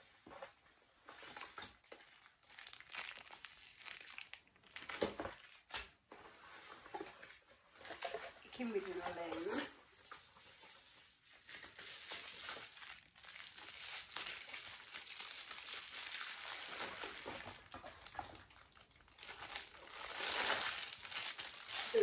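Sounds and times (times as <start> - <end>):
bubble wrap crinkling: 1.1 - 5.9, 8.6 - 22.0.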